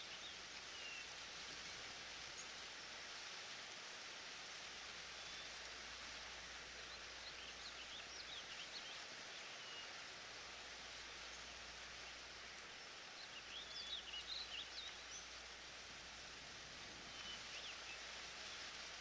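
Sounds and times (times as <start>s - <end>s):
steady soft hiss: 0.0s - 19.0s.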